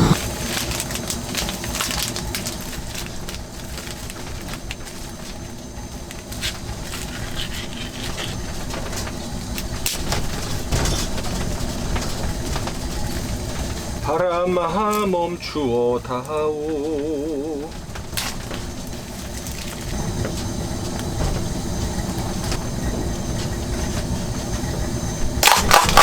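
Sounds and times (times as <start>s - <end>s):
crackling handling noise: 0.0s - 24.2s, 25.4s - 26.0s.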